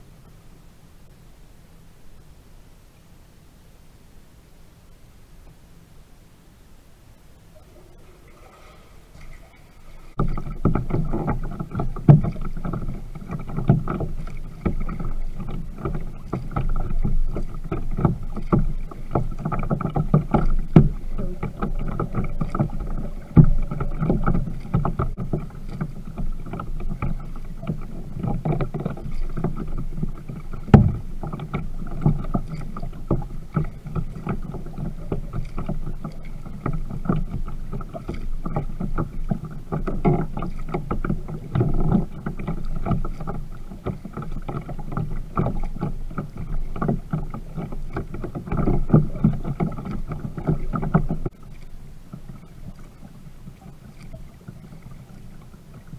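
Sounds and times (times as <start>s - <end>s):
water lapping against kayak hull: 4.4s - 55.9s
paddle knocks and splashes: 8.3s - 55.9s.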